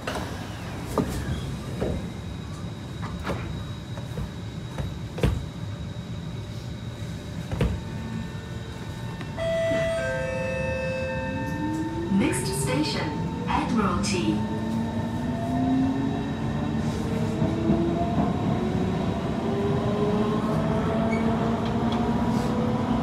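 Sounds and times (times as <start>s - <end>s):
train interior rumble: 0.0s - 23.0s.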